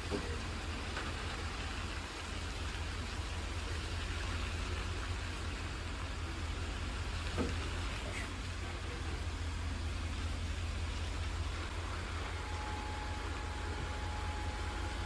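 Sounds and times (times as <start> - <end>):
truck diesel engine rumbling: 0.0 - 15.0.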